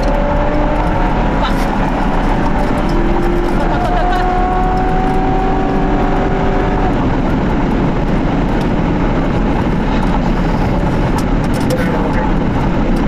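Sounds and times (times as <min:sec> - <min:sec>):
road and wind noise: 0:00.0 - 0:13.0
vehicle rumble: 0:00.0 - 0:13.0.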